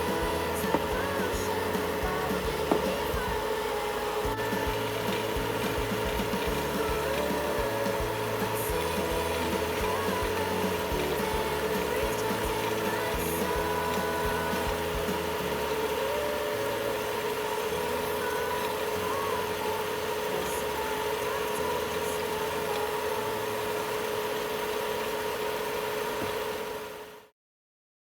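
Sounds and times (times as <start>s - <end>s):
steady mechanical hum: 0.0s - 27.3s.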